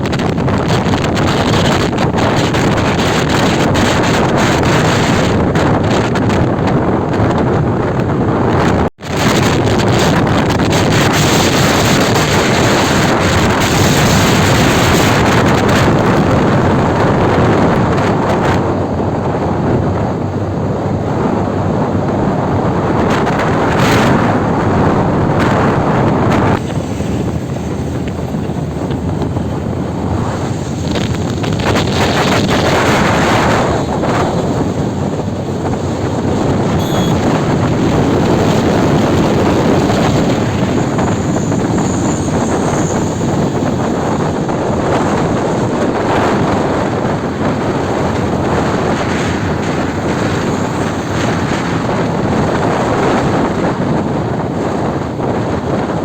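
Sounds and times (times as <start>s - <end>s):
road noise: 0.0s - 56.0s
wind rushing over microphone: 0.0s - 56.0s
motorcycle engine: 10.2s - 55.7s.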